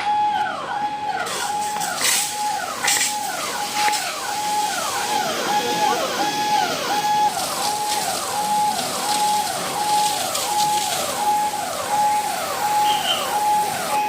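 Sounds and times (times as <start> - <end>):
electronic siren wailing: 0.0 - 14.0.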